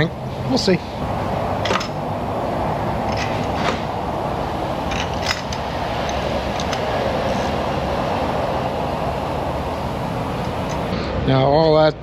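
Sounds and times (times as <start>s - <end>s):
rushing machine noise: 1.0s - 11.0s.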